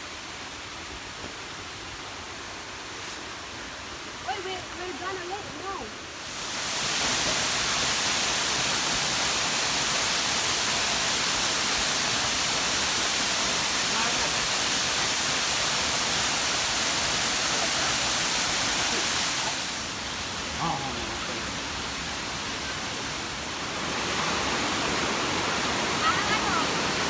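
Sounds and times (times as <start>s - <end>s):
waterfall rushing: 0.1s - 27.0s.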